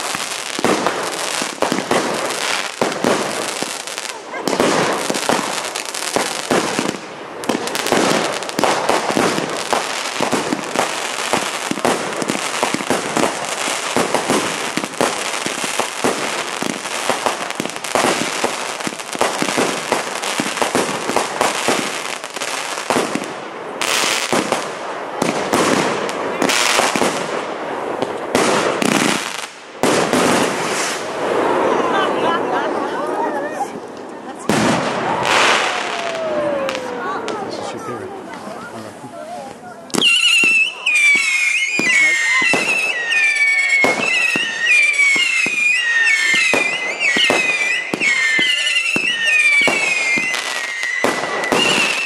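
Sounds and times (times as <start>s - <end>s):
firework barrage firing: 0.0s - 38.3s, 39.9s - 52.0s.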